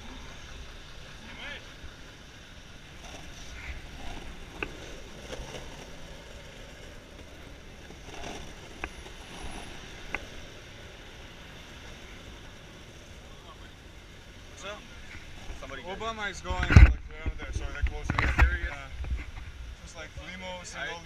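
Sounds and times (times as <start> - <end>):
skateboard wheels rumbling on asphalt: 0.0 - 21.0.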